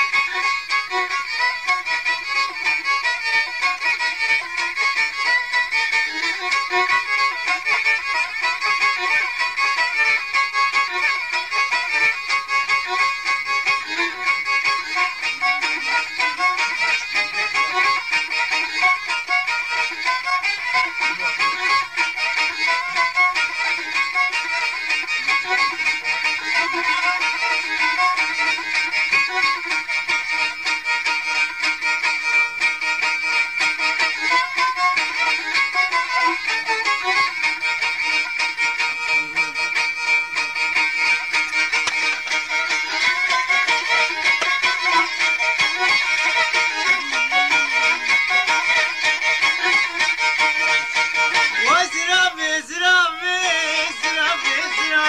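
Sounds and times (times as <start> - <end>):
folk dance music from cassette: 0.0 - 55.0.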